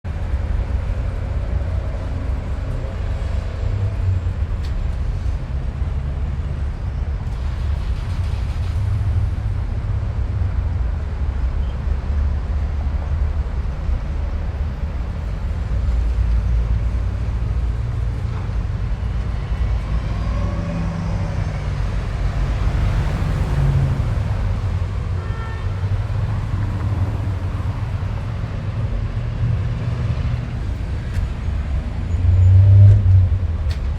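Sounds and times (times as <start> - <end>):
traffic rumble: 0.0 - 33.9
vehicle engines passing: 0.1 - 33.9.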